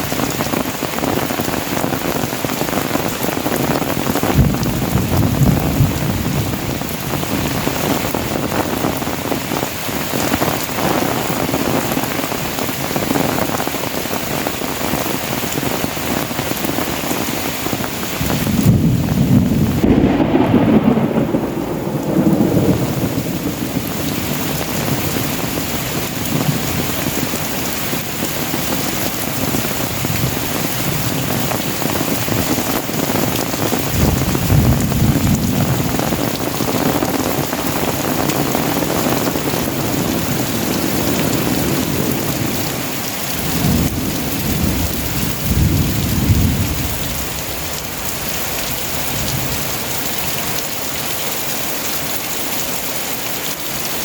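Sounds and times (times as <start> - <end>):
thunder rumbling: 0.0 - 50.6
heavy rain pouring: 0.0 - 54.0.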